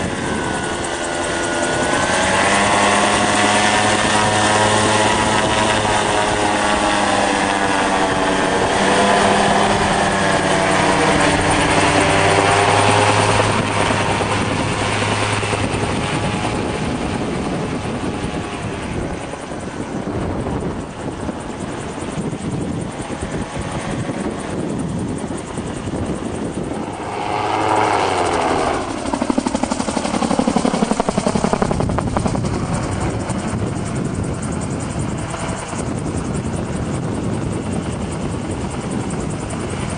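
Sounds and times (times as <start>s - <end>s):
gyrocopter engine and propeller: 0.0s - 39.9s.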